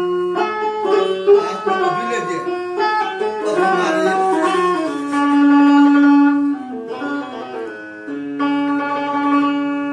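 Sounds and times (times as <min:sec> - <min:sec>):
keyed string zither melody: 0:00.0 - 0:09.9.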